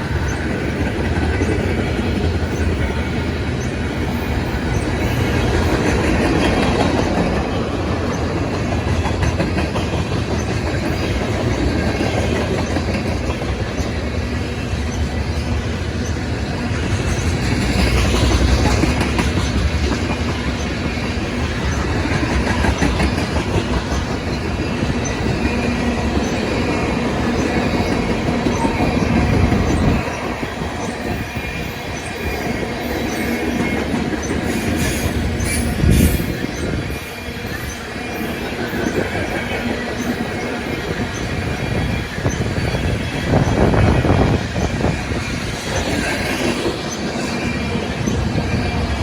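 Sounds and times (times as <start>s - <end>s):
freight train rolling past: 0.0s - 49.0s.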